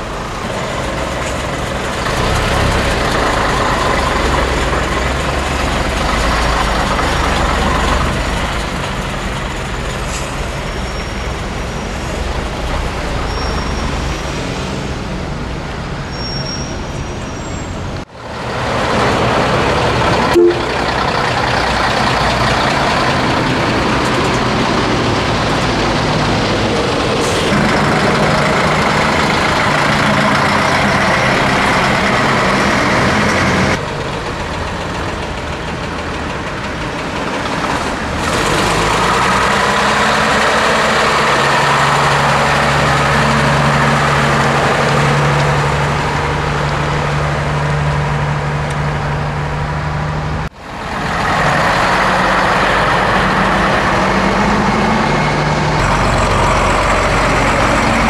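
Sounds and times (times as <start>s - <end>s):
diesel lorries driving past: 0.0s - 16.0s, 17.4s - 58.0s
tyre noise on road: 0.0s - 58.0s.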